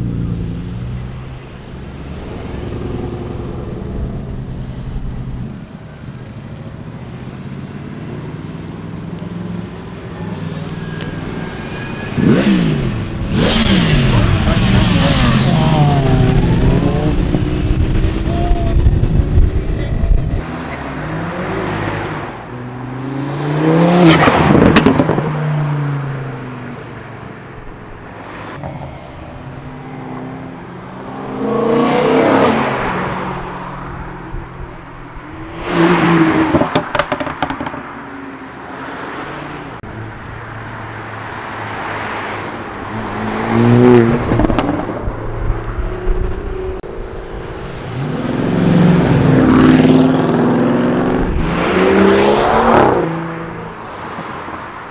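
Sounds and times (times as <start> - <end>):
cars accelerating past: 9.7 - 26.8, 28.1 - 54.9.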